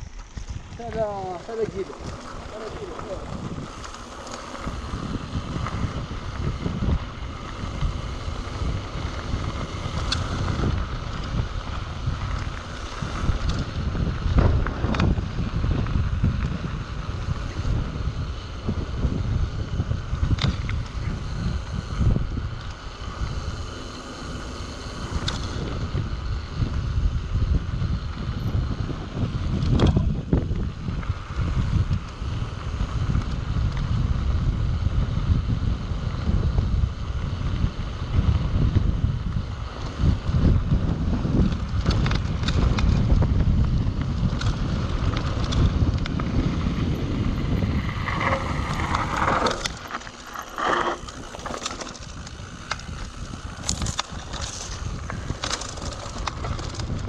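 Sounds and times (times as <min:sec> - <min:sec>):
tyres rumbling on gravel: 0:00.0 - 0:57.0
wind buffeting microphone: 0:00.0 - 0:57.0.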